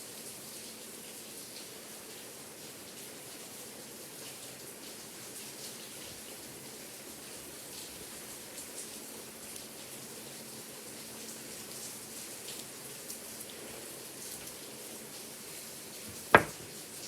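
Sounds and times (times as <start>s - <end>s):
raindrops ticking on a surface: 0.0s - 15.3s.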